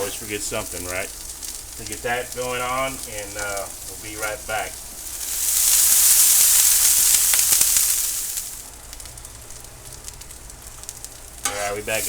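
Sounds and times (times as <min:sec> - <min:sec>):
onions sizzling on a griddle: 0:00.0 - 0:12.0.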